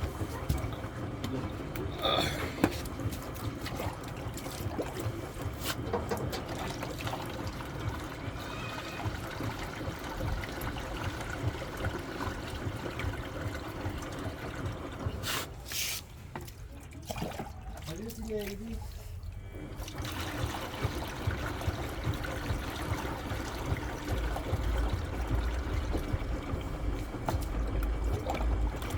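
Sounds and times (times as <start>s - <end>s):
water pouring into washing machine: 0.0s - 28.9s.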